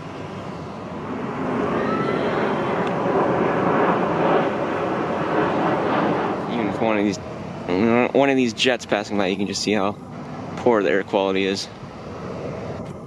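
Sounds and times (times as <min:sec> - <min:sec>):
jet aircraft passing overhead: 0:00.0 - 0:13.0.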